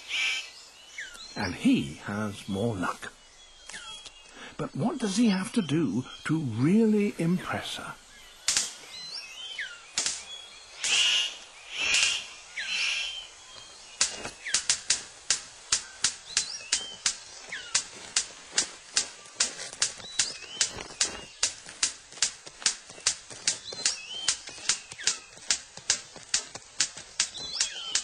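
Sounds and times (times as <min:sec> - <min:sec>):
falling whistled bird calls: 0:00.0 - 0:28.0
harsh rasping bird calls: 0:00.0 - 0:28.0
sharp bird clicks: 0:00.0 - 0:28.0.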